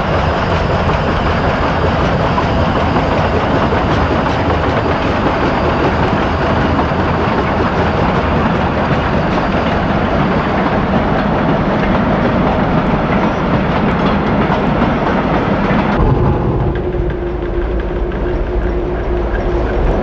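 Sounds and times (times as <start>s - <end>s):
steam train rumbling past: 0.0s - 20.0s.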